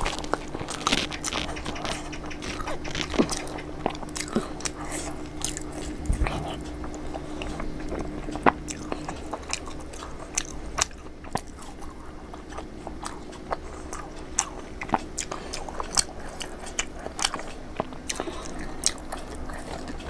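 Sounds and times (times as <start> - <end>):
crunching crisp snack: 0.0 - 20.0.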